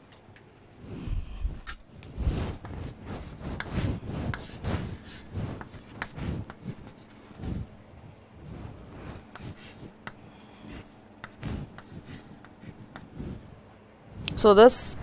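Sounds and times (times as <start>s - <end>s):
rubbing and scraping: 0.8s - 15.0s.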